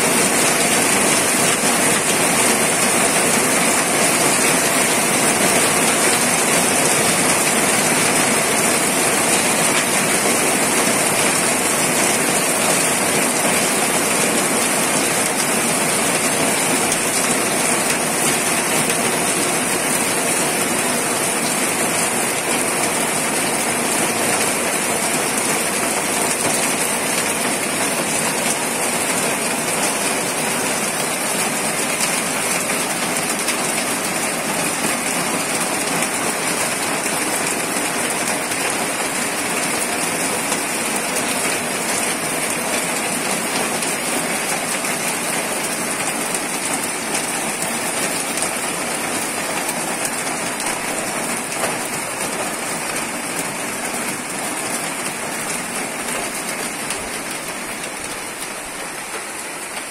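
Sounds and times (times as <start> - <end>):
torrential rain pouring: 0.0 - 59.9.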